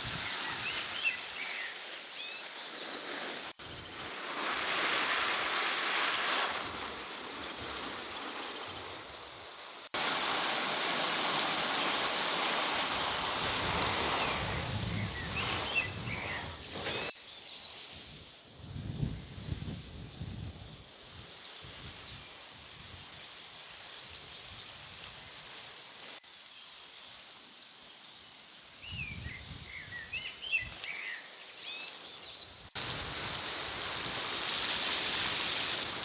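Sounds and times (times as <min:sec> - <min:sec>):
outdoor background hiss: 0:00.0 - 0:36.0.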